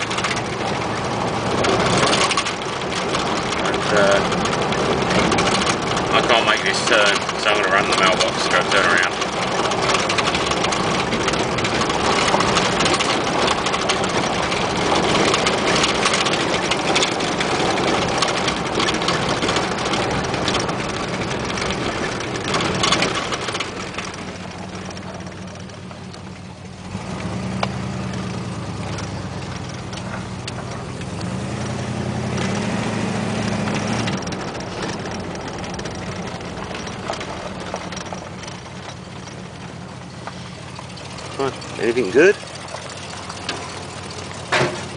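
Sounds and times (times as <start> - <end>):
car engine running: 0.0 - 44.9
tyre and road noise: 0.0 - 44.9.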